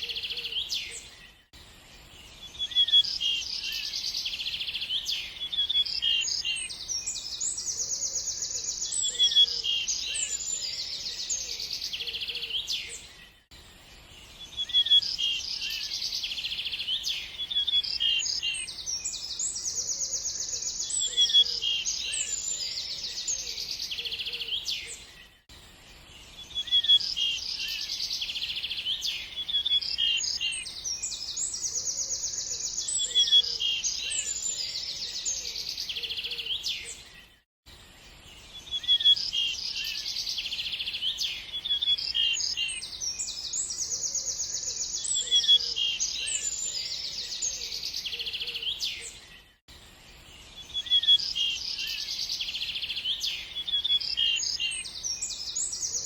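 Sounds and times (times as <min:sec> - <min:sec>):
birds chirping and singing: 0:00.0 - 0:37.4, 0:38.0 - 0:56.0.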